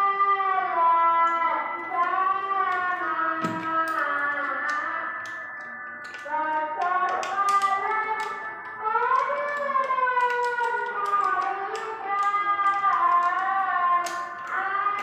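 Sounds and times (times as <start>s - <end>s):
wavering melody music: 0.0s - 15.0s
sharp tapping clicks: 2.7s - 15.0s.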